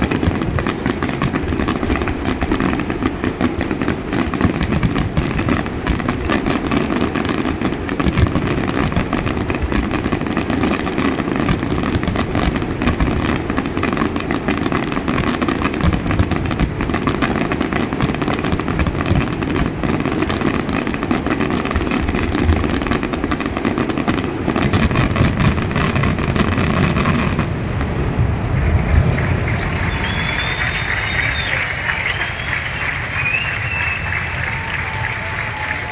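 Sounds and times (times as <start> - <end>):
fireworks exploding: 0.0 - 35.9.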